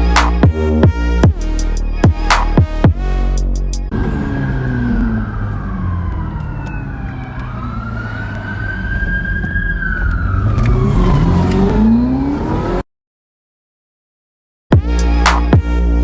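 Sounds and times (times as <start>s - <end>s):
car engine revving with whine: 0.0s - 12.8s.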